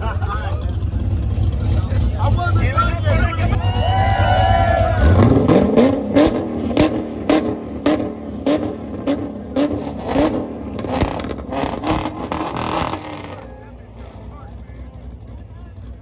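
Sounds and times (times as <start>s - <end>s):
car engine revving blips: 0.0s - 16.0s
exhaust bangs: 0.0s - 16.0s.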